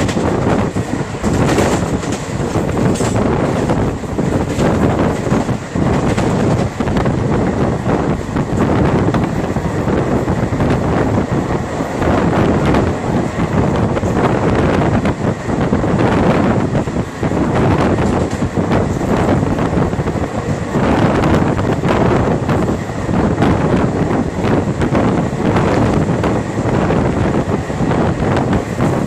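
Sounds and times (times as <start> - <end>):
train wheels rumbling on rails: 0.0 - 29.0
wind rushing over microphone: 0.0 - 29.0.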